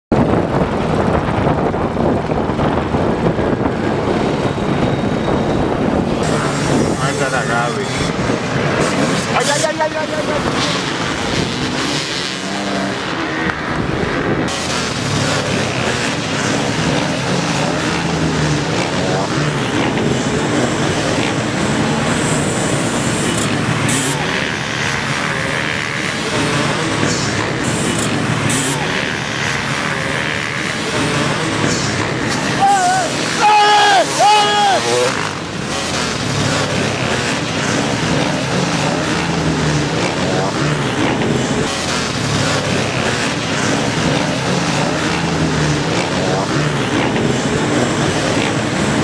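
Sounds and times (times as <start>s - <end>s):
dirt bike engines running: 0.1s - 49.0s.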